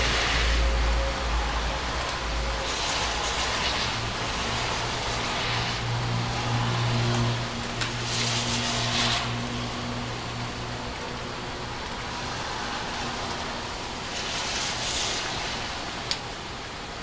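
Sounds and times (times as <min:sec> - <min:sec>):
rain hissing: 0:00.0 - 0:17.0
tyre hiss on wet street: 0:00.0 - 0:17.0.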